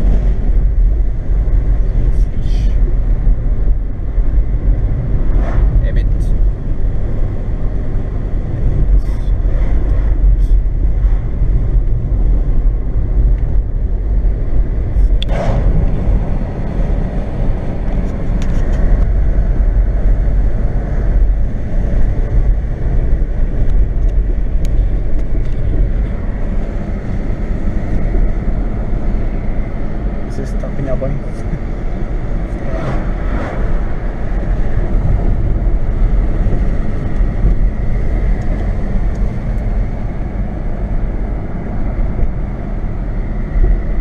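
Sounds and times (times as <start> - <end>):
car engine and tyre rumble: 0.0 - 44.0.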